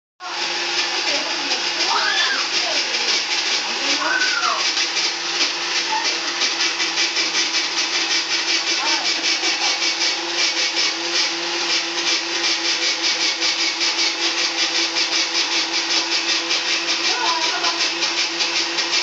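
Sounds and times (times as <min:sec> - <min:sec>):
ice shaver motor hum: 0:00.2 - 0:19.0
gritty hiss of shaving ice: 0:00.8 - 0:19.0.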